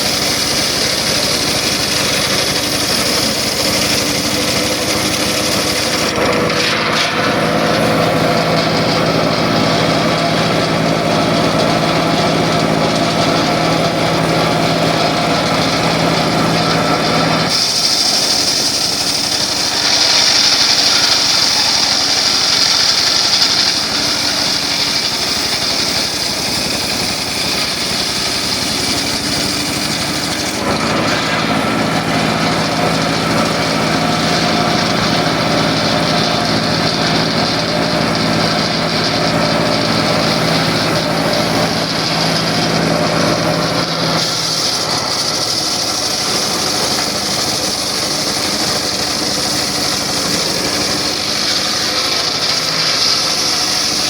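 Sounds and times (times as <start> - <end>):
circular saw running: 0.0 - 54.0.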